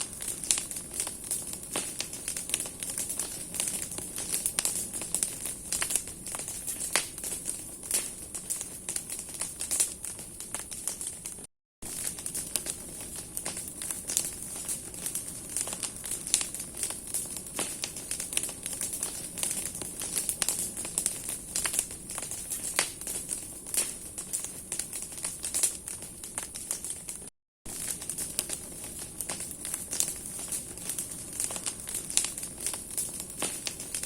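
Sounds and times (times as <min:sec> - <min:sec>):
fire hissing: 0:00.0 - 0:34.0
wood fire crackling and popping: 0:00.0 - 0:34.0.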